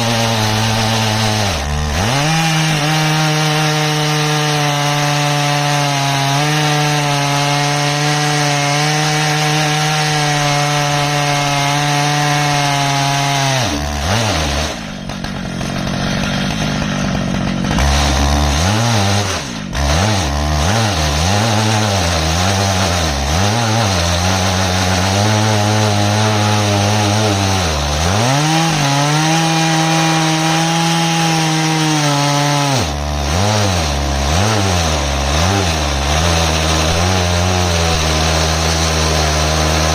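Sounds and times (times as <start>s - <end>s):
chainsaw milling log: 0.0s - 39.9s.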